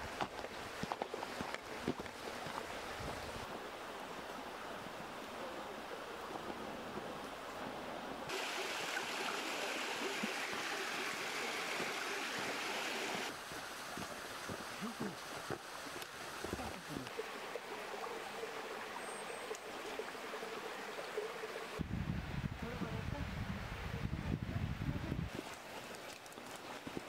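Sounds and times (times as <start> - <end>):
stream running over rocks: 0.0 - 21.9, 25.3 - 27.0.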